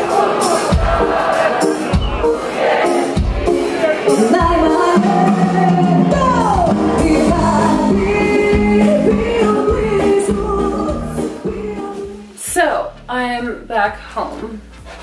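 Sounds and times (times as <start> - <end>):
club music with singing: 0.0 - 12.7.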